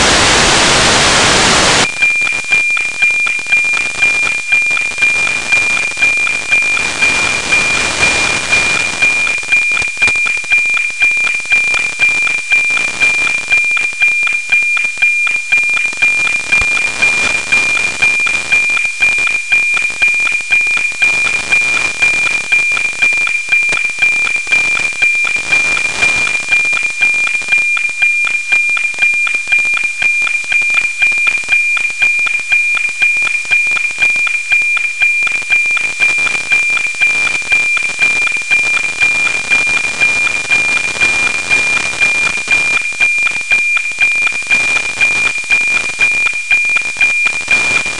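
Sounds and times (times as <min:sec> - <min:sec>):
heavy static hiss: 0:00.0 - 0:47.9
high tone ticking: 0:00.0 - 0:47.9.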